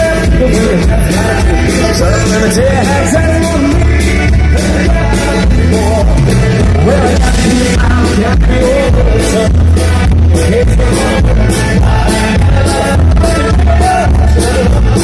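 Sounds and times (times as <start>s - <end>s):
lead vocal singing: 0.0s - 15.0s
live band playing: 0.0s - 15.0s.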